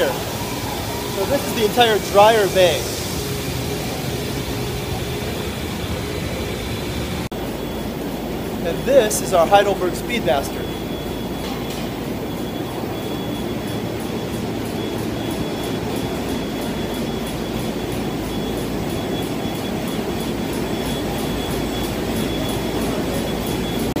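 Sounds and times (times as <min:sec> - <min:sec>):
thin high whine: 0:00.0 - 0:24.0.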